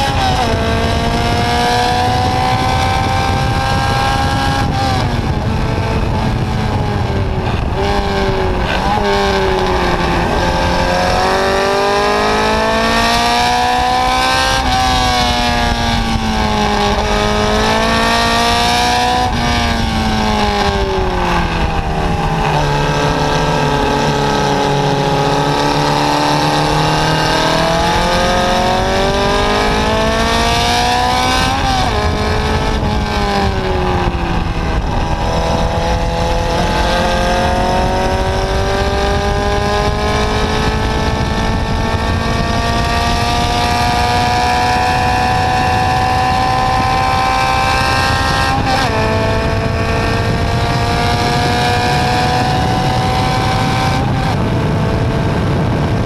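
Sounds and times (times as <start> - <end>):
racing car engine: 0.0 - 56.0
wind and road noise: 0.0 - 56.0.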